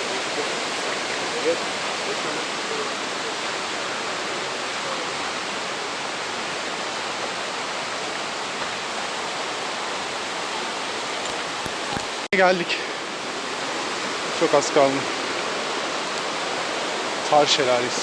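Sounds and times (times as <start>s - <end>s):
creek and waterfall rushing: 0.0s - 18.0s.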